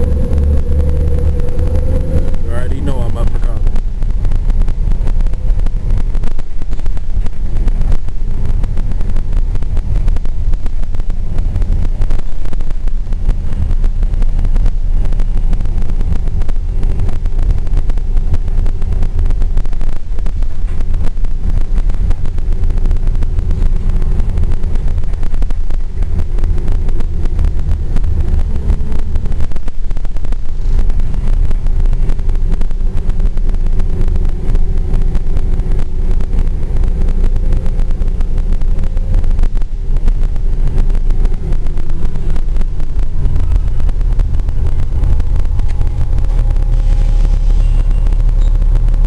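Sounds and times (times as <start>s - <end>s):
bus engine and road rumble: 0.0s - 49.0s
wind on microphone: 0.0s - 49.0s.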